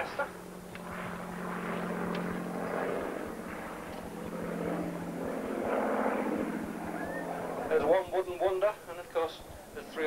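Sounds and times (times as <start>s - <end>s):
propeller aircraft engine drone: 0.0s - 10.0s.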